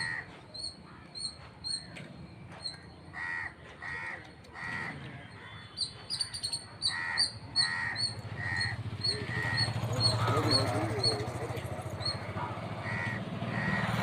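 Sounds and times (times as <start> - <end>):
crows cawing: 0.0 - 1.4, 2.7 - 14.0.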